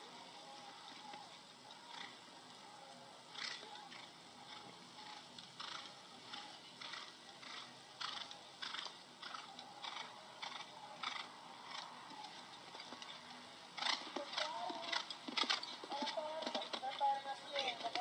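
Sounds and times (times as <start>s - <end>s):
horse cantering: 3.3s - 18.0s.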